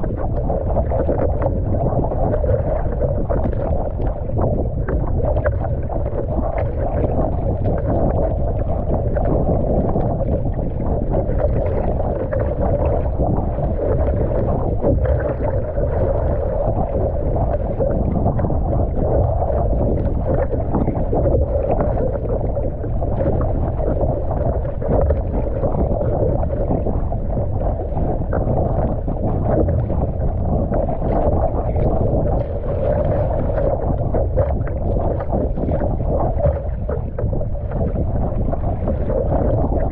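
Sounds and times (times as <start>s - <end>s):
choppy water slapping hull: 0.0s - 39.9s
wind buffeting microphone: 0.0s - 39.9s.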